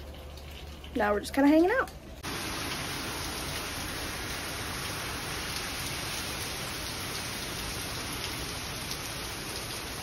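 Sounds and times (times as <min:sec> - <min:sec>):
rain falling on shrubs: 0:00.0 - 0:10.0
water running off roof: 0:00.0 - 0:10.0.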